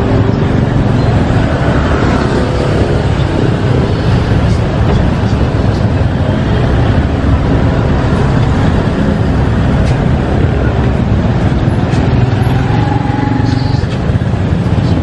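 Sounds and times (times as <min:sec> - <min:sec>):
street traffic rumble: 0:00.0 - 0:15.0
vehicle engines running nearby: 0:00.0 - 0:15.0.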